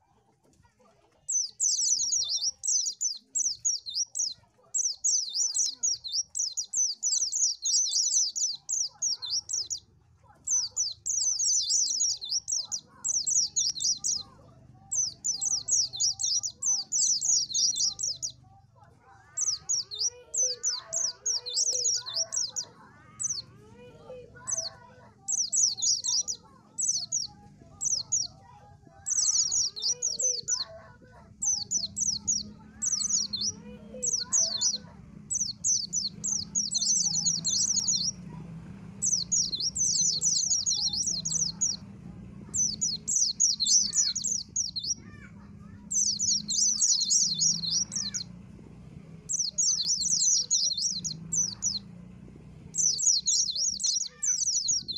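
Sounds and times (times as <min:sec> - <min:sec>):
lower bird chirps: 0:01.2 - 0:52.0, 0:52.6 - 0:54.9
white-eye twittering song: 0:01.3 - 0:18.4, 0:19.1 - 0:38.4, 0:39.0 - 0:45.1, 0:45.7 - 0:48.3, 0:49.3 - 0:51.9, 0:52.7 - 0:54.9.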